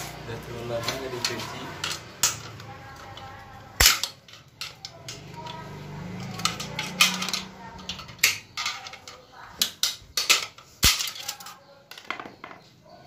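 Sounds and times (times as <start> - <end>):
metal parts clinking: 0.0 - 12.6.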